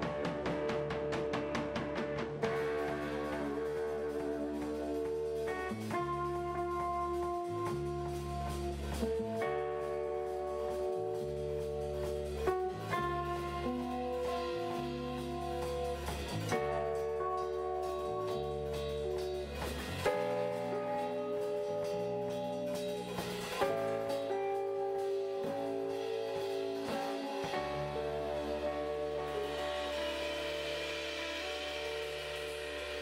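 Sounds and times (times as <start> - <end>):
guitar led band music: 0.0 - 33.0.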